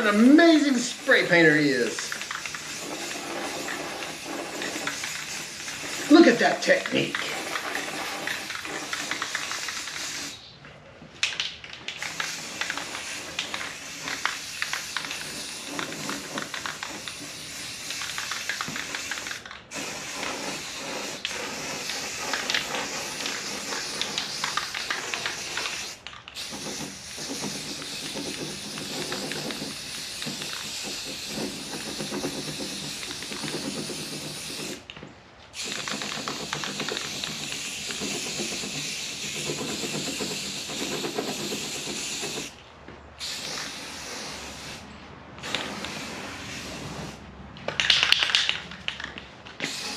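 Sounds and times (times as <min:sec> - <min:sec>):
aerosol spray can hissing: 0:00.0 - 0:10.4, 0:11.9 - 0:34.9, 0:35.6 - 0:42.6, 0:43.2 - 0:44.8, 0:45.4 - 0:47.2, 0:49.6 - 0:49.9.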